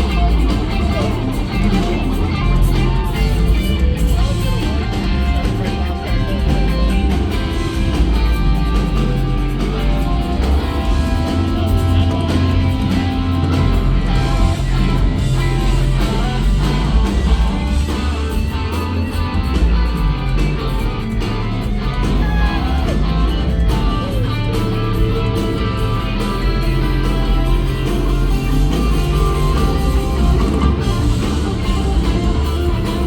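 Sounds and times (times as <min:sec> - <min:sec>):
bent gliding guitar notes: 0:00.0 - 0:33.0
live rock band playing: 0:00.0 - 0:33.0.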